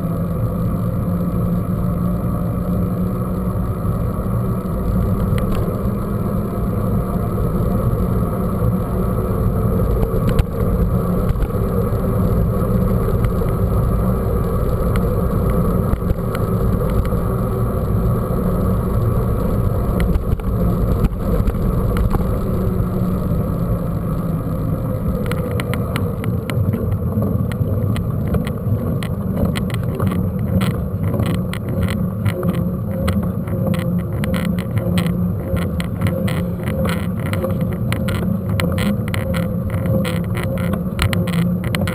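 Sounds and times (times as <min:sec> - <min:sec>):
mountain bike rumbling on dirt trail: 0:00.0 - 0:41.9.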